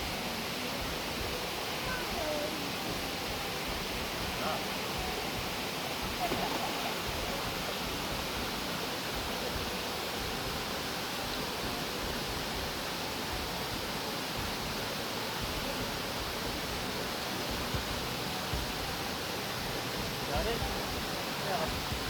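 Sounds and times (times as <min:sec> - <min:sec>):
water pouring over waterfall: 0:00.0 - 0:22.0.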